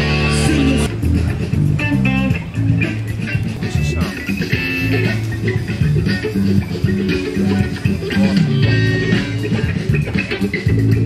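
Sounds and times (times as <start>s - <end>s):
bass guitar notes: 0.0s - 11.0s
live rock band music: 0.0s - 11.0s.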